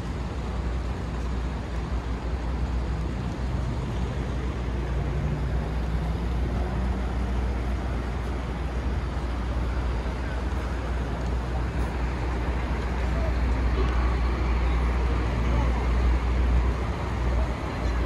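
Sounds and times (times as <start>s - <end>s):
passing vehicles rumbling: 0.0s - 18.0s.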